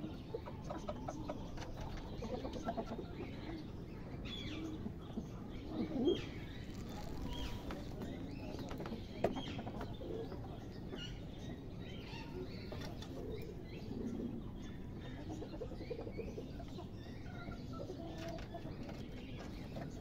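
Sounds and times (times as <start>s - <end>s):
caged birds chirping: 0.0s - 20.0s.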